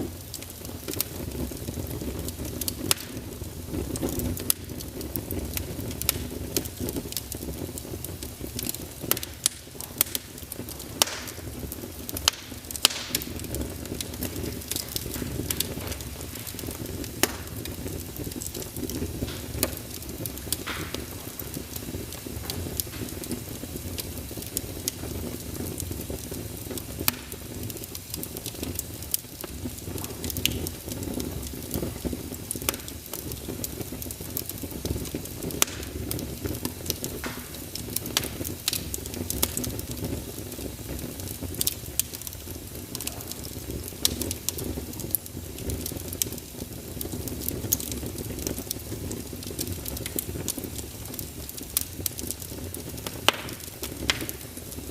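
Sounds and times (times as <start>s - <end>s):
fire rumble and hiss: 0.0s - 54.9s
logs crackling and popping: 0.0s - 54.9s.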